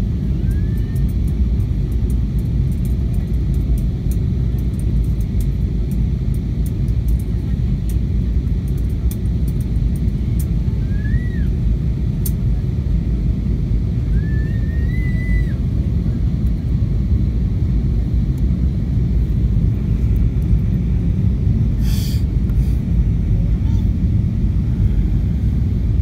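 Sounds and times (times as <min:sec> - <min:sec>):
aircraft cabin engine rumble: 0:00.0 - 0:26.0.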